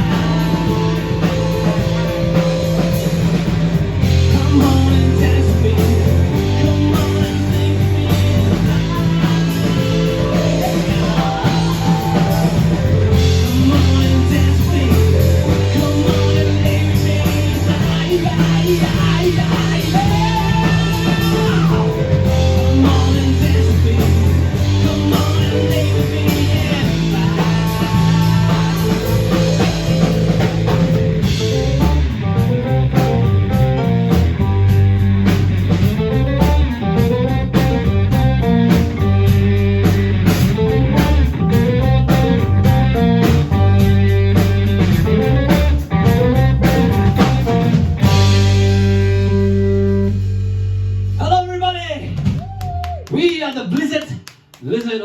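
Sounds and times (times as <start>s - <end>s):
bass line: 0.0s - 55.0s
live rock band: 0.0s - 55.0s.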